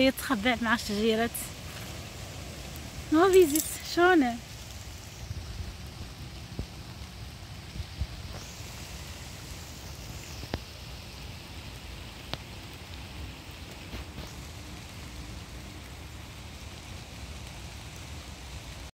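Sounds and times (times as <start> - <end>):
light rain falling: 0.0 - 18.9.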